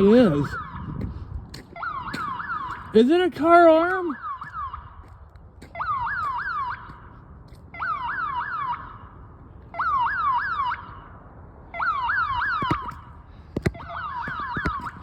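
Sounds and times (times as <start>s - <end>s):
warbling security alarm siren: 0.0s - 1.0s, 1.7s - 3.1s, 3.9s - 15.0s.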